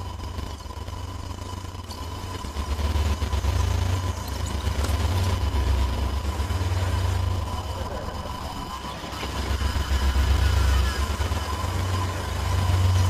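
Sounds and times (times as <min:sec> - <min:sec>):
wavering low electronic rumble: 0:00.0 - 0:13.0.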